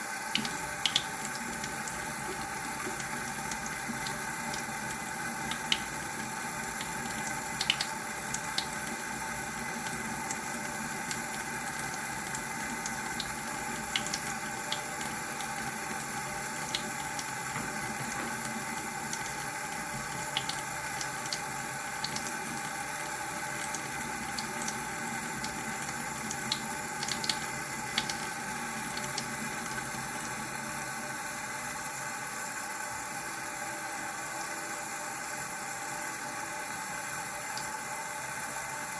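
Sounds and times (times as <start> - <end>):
tap water running into sink: 0.0 - 31.8.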